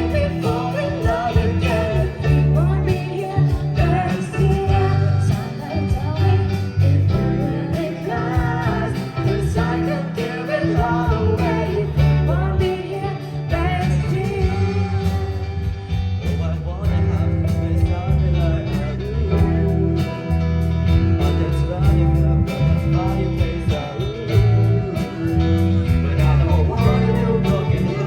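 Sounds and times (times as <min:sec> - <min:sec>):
steady drum beat: 0:00.0 - 0:18.3, 0:18.9 - 0:28.0
bass: 0:00.0 - 0:28.0
guitar: 0:00.0 - 0:28.0
person singing: 0:00.0 - 0:28.0.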